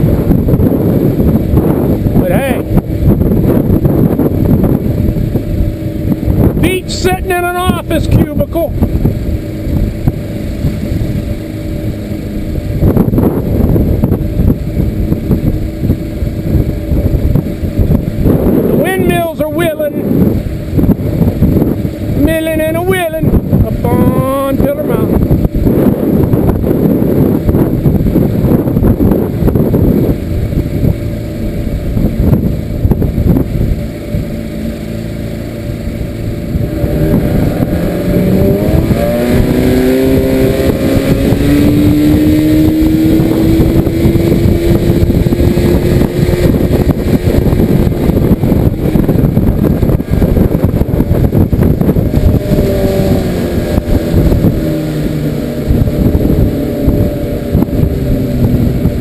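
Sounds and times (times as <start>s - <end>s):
outboard motor: 0.0s - 59.0s
wind and water rushing: 0.0s - 59.0s.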